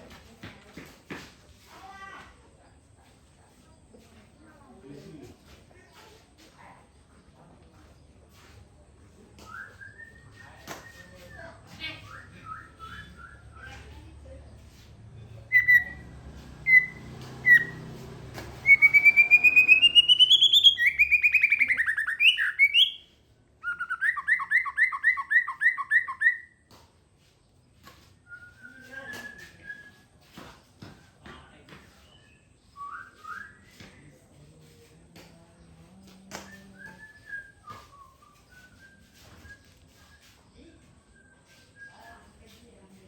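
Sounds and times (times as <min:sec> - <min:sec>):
songbird singing: 0:03.6 - 0:43.0.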